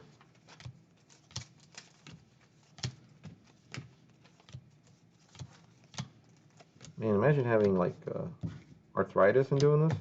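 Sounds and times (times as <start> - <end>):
trading cards ticking and tapping: 0.3 - 8.7, 9.4 - 10.0.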